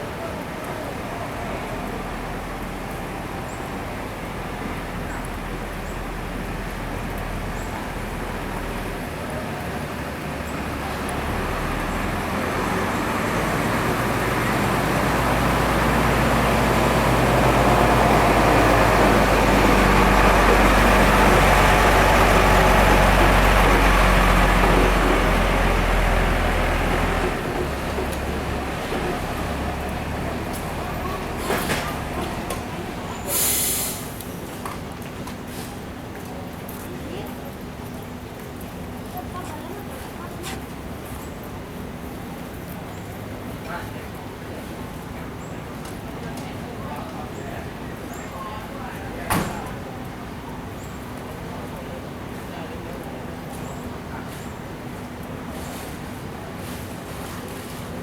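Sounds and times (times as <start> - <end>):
large vehicle engine: 0.0 - 58.0
road traffic: 0.0 - 58.0.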